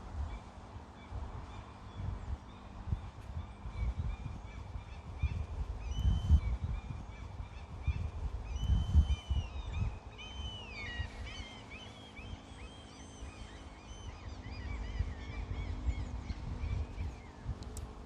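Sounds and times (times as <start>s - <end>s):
birds chirping and singing: 1.6s - 17.6s.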